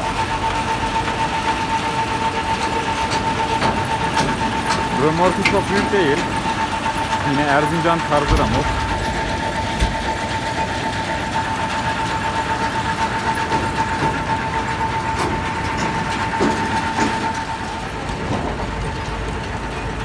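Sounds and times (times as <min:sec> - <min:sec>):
high machinery whine: 0:00.0 - 0:20.0
mechanical rumble: 0:00.0 - 0:20.0.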